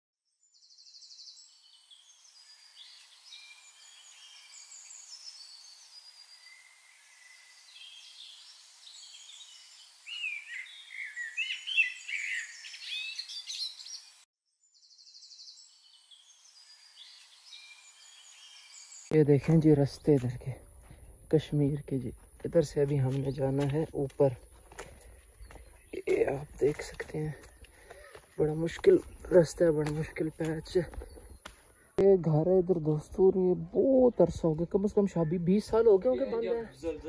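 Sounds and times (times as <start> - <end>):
birds chirping and singing: 0.4 - 37.0.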